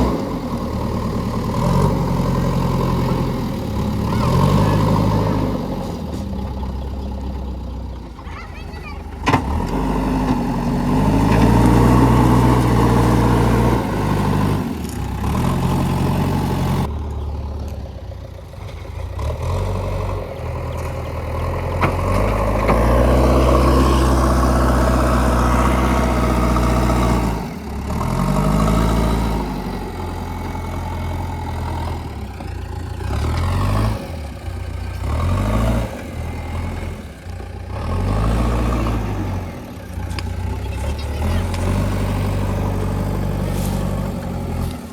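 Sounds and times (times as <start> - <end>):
diesel engine working under load: 0.0 - 44.9.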